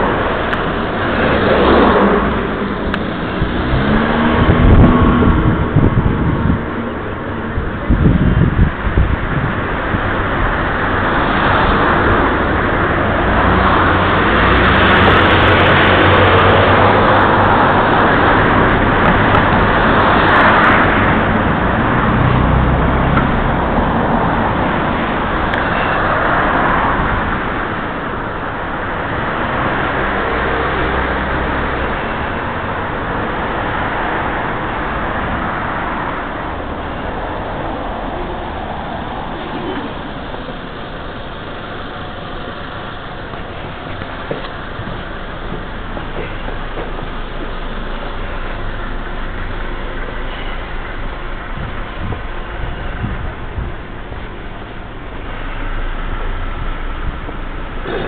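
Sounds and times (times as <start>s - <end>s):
passing cars: 0.0s - 58.0s.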